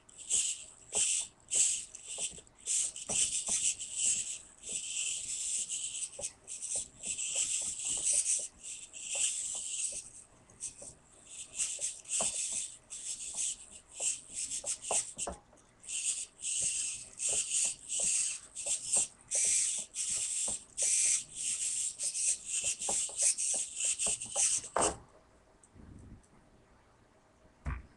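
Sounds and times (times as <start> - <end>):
servos whirring: 0.2 - 15.2, 15.9 - 25.0.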